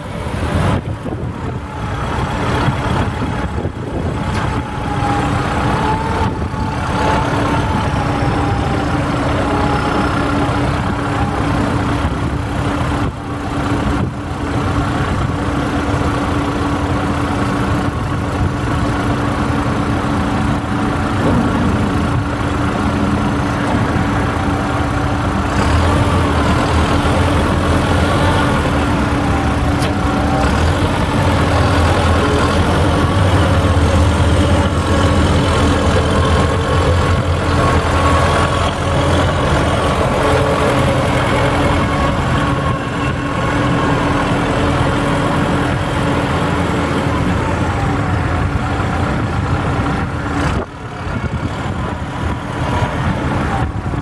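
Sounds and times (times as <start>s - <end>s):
tractor diesel engine rumbling: 0.0s - 54.0s
tractor driving on gravel: 8.1s - 54.0s.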